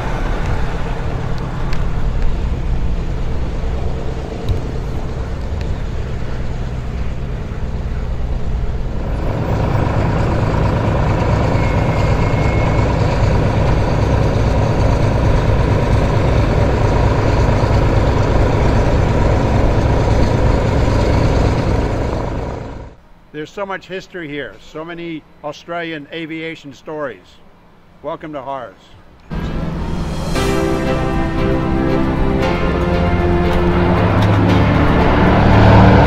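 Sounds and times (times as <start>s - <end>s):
propeller plane engines rumbling: 0.0s - 36.0s.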